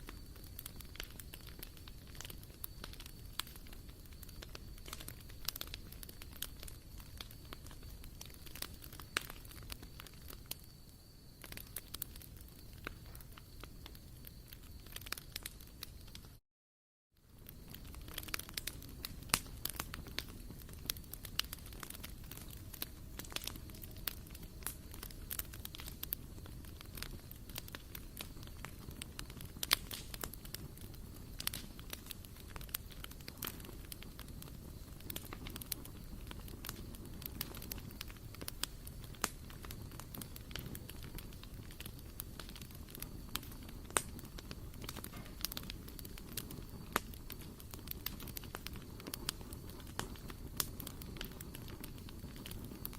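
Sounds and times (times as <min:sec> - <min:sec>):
wood fire crackling: 0:00.0 - 0:16.4, 0:17.2 - 0:52.9.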